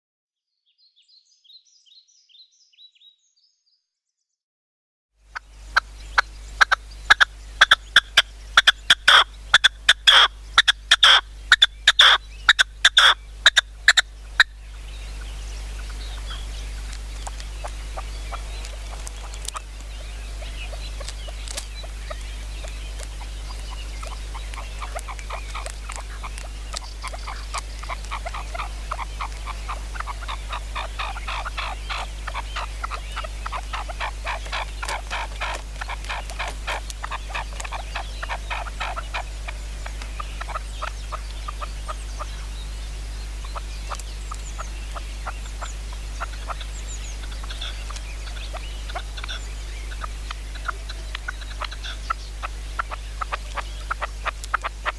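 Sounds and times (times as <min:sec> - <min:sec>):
partridge calling: 0:05.3 - 0:54.9
steady low hum: 0:05.3 - 0:54.9.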